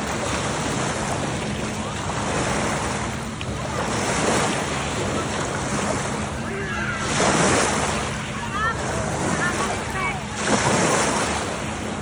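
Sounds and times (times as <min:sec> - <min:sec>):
waves lapping in shallow water: 0:00.0 - 0:12.0.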